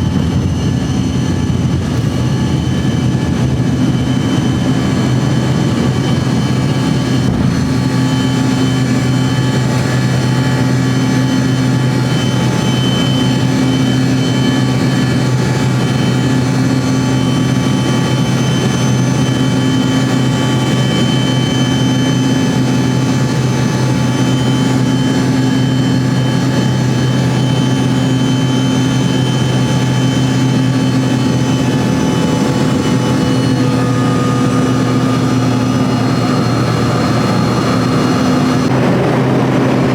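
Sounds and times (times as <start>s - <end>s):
aircraft engines droning: 0.0s - 39.9s
low hum: 0.0s - 39.9s.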